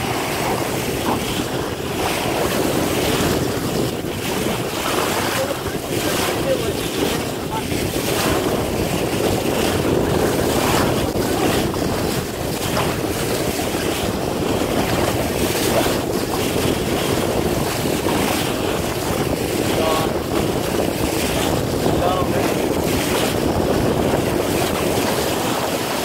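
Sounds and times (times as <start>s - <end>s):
water splashing along boat hull: 0.0s - 26.0s
wind buffeting microphone: 0.0s - 26.0s.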